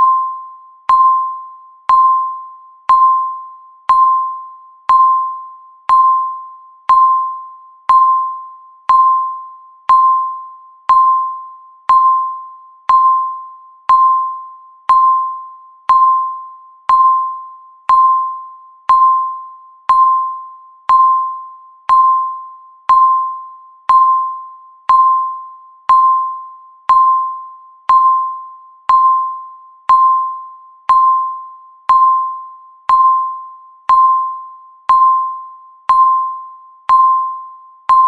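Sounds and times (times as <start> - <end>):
timer electronic beeps: 0.0 - 38.0.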